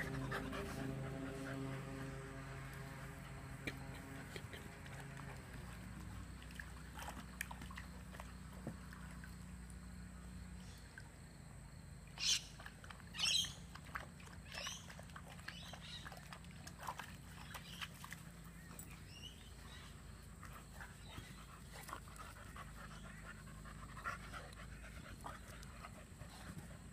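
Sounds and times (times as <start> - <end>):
dogs playing: 0.0 - 9.8, 12.6 - 26.9.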